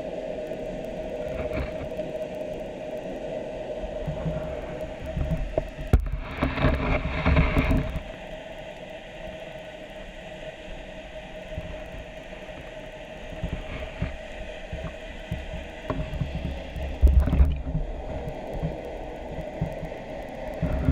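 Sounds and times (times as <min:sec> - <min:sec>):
faint hum: 0:00.0 - 0:20.9
rushing water: 0:00.0 - 0:20.9
underwater rumble: 0:00.0 - 0:20.9.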